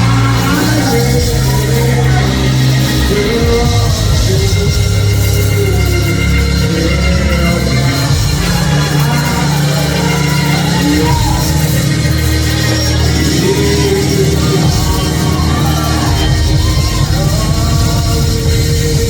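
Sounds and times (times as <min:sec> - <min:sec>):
church band playing gospel music: 0:00.0 - 0:19.0
heavy bass: 0:00.0 - 0:19.0.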